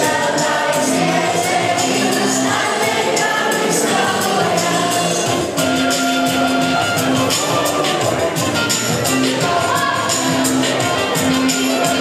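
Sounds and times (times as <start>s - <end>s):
children's choir singing: 0.0s - 12.0s
musical accompaniment: 0.0s - 12.0s.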